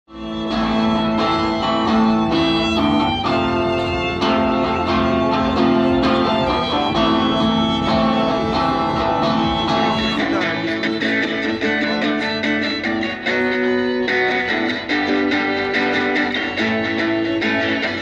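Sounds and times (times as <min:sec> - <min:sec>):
strummed acoustic guitar: 0:00.1 - 0:18.0
violin held notes: 0:00.1 - 0:18.0.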